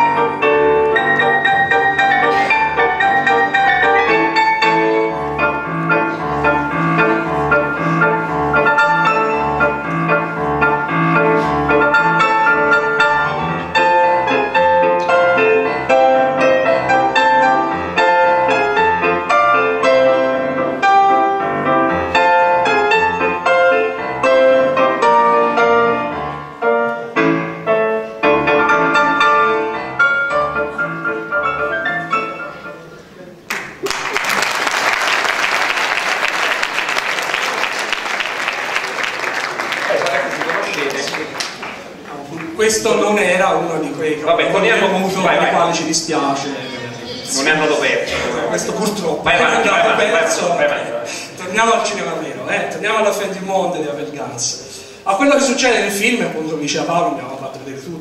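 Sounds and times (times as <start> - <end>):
piano music: 0.0 - 33.8, 34.5 - 58.0.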